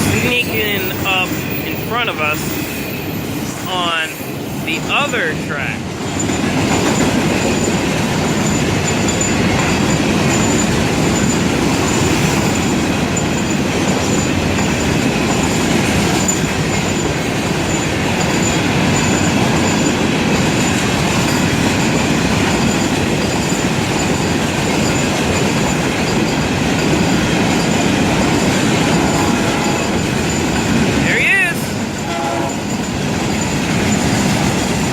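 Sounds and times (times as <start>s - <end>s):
high wheel squeal: 0.0s - 5.6s, 6.2s - 20.0s, 20.6s - 34.9s
clickety-clack of wheels: 0.0s - 34.9s
train wheels rumbling on rail: 0.0s - 34.9s.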